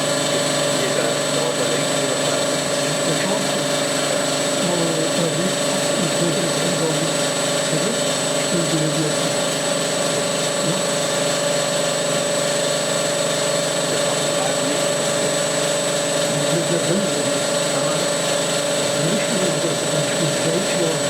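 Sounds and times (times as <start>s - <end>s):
grinding machine running: 0.0s - 21.0s.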